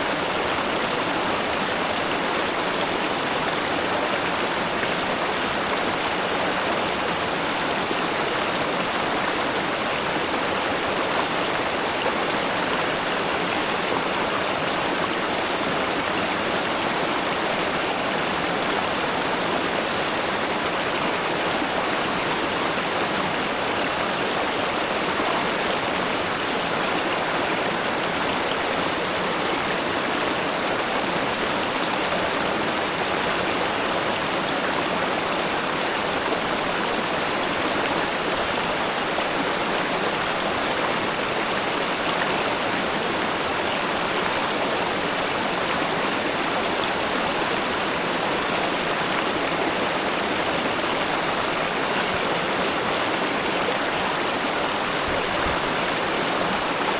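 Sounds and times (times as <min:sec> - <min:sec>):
river flowing over stones: 0:00.0 - 0:56.9.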